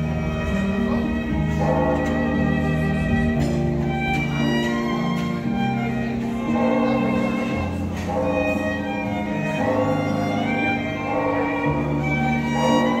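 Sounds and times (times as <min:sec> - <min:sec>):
two violins playing melody: 0:00.0 - 0:13.0.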